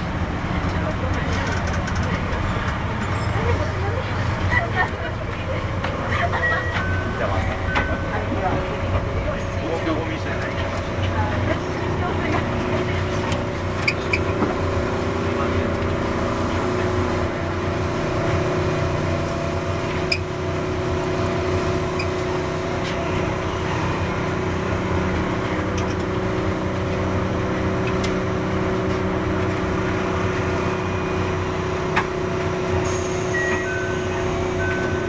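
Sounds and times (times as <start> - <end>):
electric train rumble: 0.0 - 35.0.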